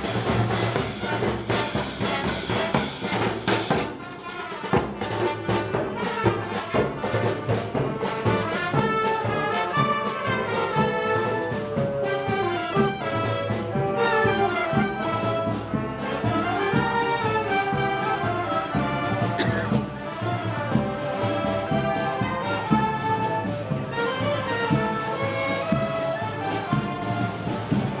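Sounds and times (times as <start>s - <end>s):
steady drum beat: 0.0s - 28.0s
trumpets and trombones melody: 0.0s - 28.0s.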